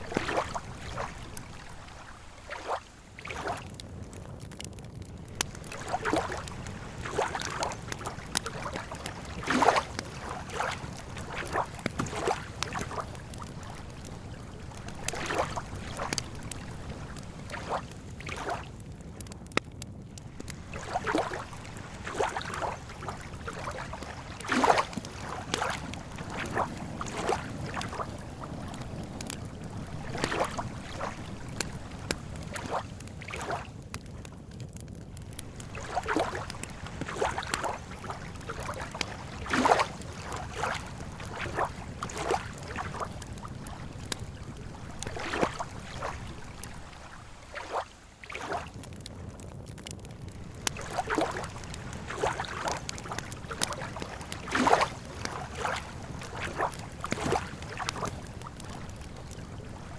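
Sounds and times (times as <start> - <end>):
lake water lapping at shore: 0.0 - 18.8, 20.2 - 34.1, 35.1 - 59.9
campfire crackling: 0.0 - 59.9.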